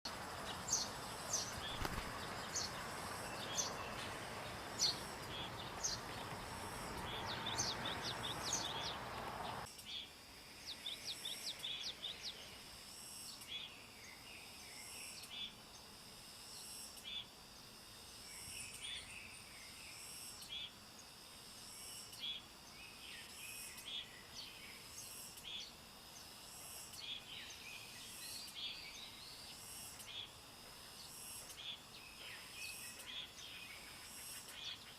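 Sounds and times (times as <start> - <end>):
broad background hiss: 0.1 - 34.9
pulsing insect chorus: 0.1 - 34.9.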